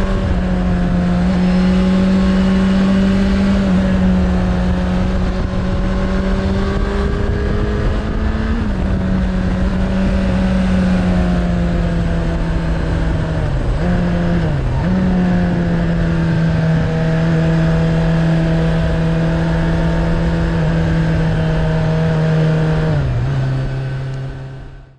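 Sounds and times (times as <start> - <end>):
motorcycle engine running: 0.0 - 24.9
wind rush on microphone: 0.0 - 24.9.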